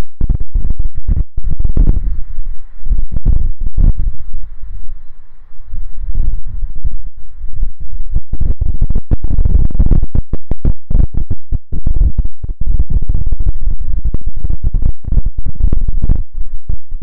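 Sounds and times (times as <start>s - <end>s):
wind buffeting microphone: 0.2s - 5.0s, 5.6s - 17.0s.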